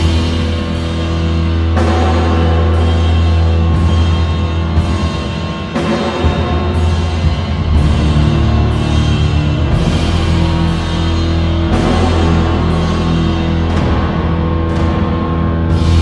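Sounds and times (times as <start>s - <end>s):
rock music with drums and bass: 0.0s - 16.0s.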